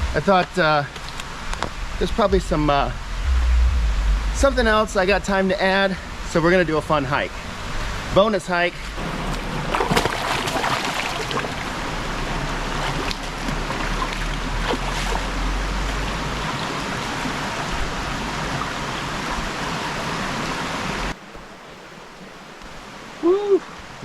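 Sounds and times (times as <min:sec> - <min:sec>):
stream water rushing over rocks: 0:00.0 - 0:04.2, 0:04.8 - 0:24.0.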